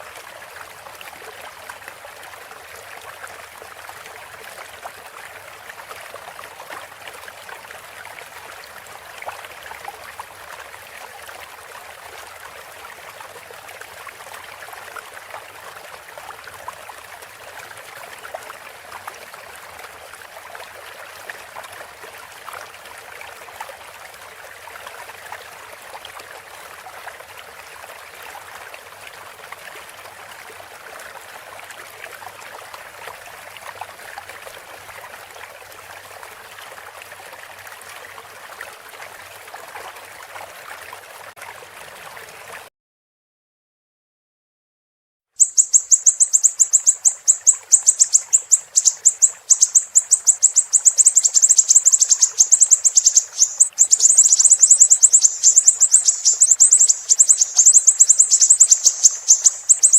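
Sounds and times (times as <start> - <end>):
trickling stream: 0.0 - 42.7, 45.3 - 59.9.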